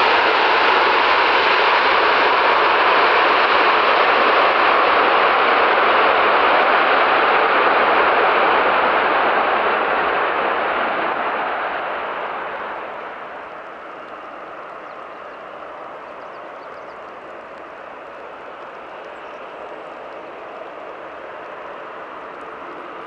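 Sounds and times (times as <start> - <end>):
jet airliner rolling down runway: 0.0 - 23.0.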